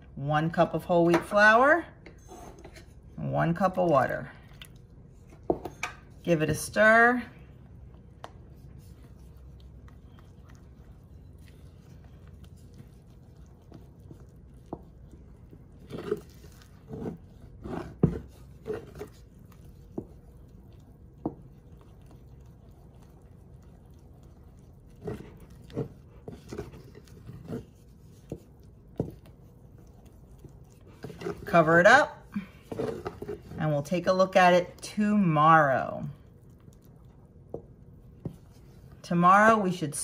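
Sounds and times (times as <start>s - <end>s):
spoon stirring thick batter: 0.1s - 40.0s.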